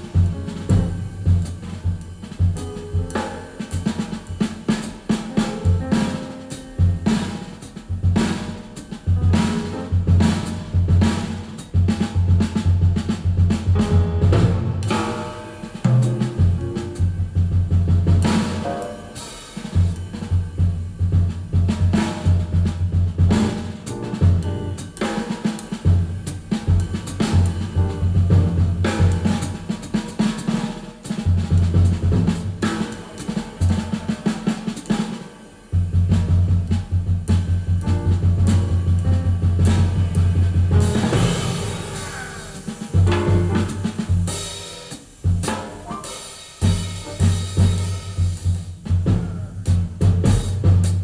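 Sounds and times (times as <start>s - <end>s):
drum-led music over loudspeakers: 0.0s - 51.0s.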